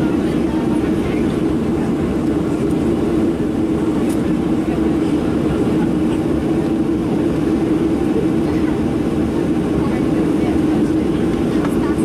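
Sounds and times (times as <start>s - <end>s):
airplane cabin hum: 0.0s - 12.0s.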